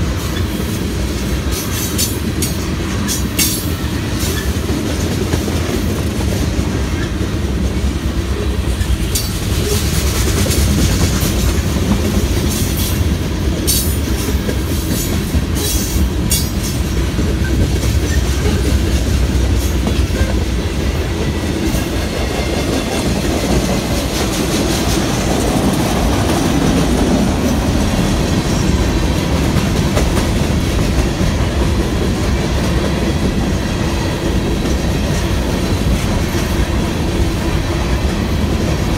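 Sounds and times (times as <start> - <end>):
freight train cars rumbling: 0.0 - 38.9.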